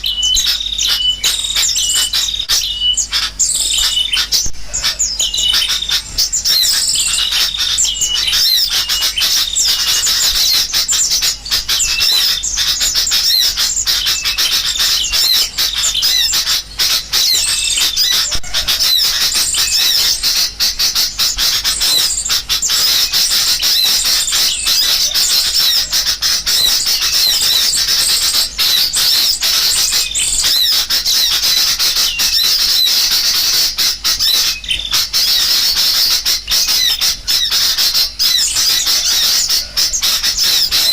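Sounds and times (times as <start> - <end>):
bulbul calling: 0.0 - 40.9
small birds chirping: 0.0 - 40.9.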